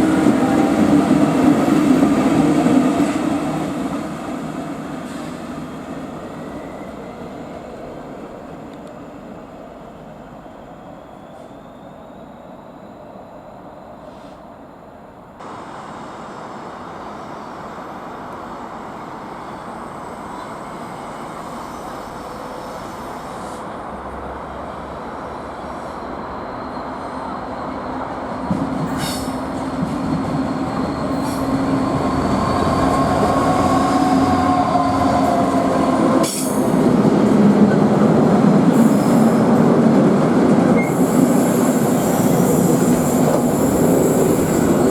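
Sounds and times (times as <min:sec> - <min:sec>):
train approaching: 0:00.0 - 0:44.9.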